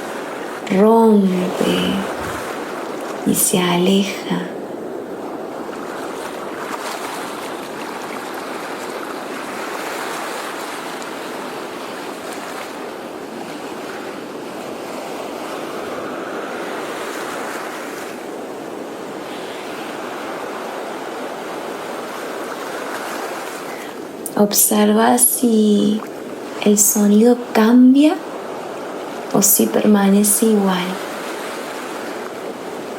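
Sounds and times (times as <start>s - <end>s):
sea waves washing onto shore: 0.0s - 32.9s.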